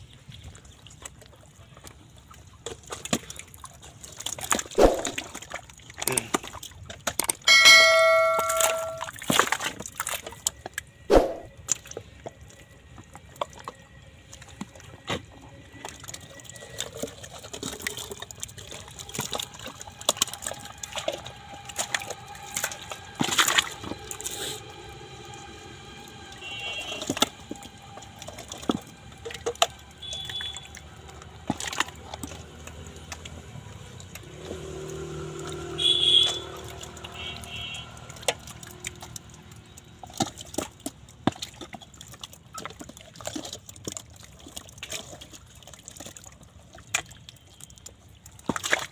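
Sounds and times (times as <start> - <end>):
wet mud squelching: 0.3 - 24.7, 28.3 - 48.9.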